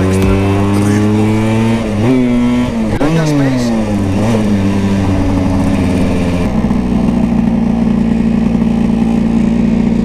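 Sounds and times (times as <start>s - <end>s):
two-stroke scooter engine running: 0.0s - 10.0s.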